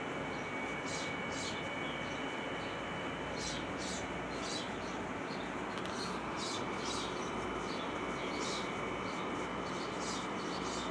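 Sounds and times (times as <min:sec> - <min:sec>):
ambient hiss: 0:00.0 - 0:10.9.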